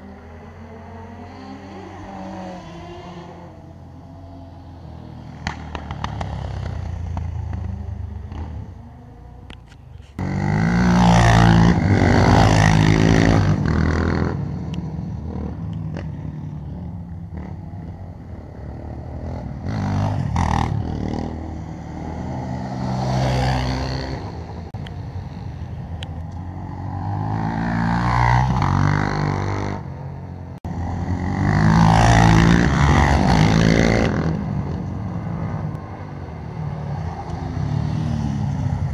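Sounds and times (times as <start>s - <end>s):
quad bike engines revving: 0.0s - 38.9s.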